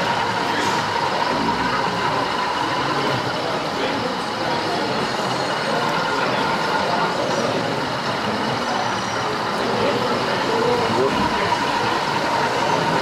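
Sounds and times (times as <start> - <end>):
crowd talking in a hall: 0.0 - 13.0.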